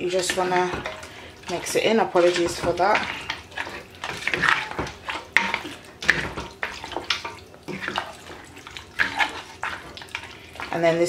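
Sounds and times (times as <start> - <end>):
spoon scraping and knocking pot: 0.0 - 10.7
spoon stirring thick stew: 0.0 - 11.0.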